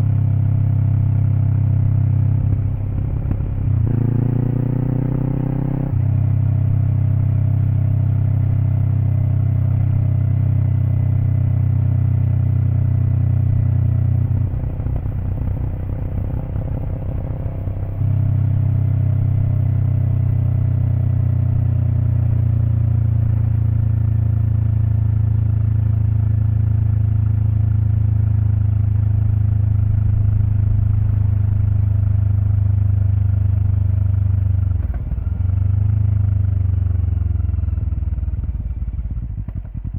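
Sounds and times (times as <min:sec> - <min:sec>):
motorcycle engine revving: 0:00.1 - 0:39.9.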